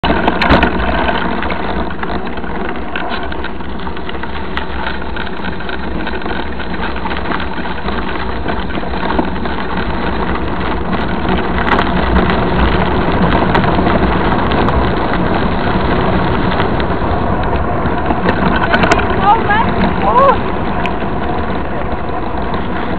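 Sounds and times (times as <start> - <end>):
tyres rolling on gravel: 0.0 - 22.9
wind on microphone: 0.0 - 22.9.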